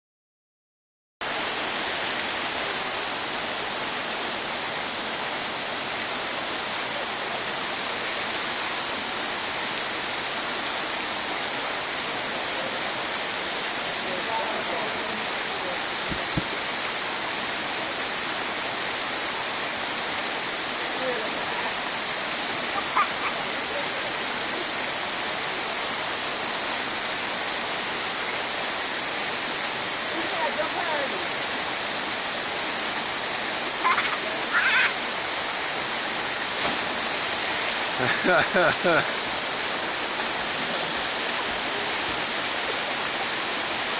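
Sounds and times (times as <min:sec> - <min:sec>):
rushing water: 0:01.2 - 0:43.9.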